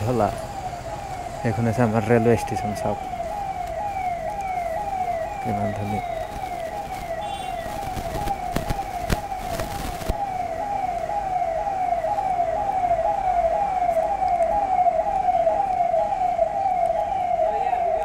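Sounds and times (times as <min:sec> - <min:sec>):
electronic siren alarm: 0:00.0 - 0:18.0.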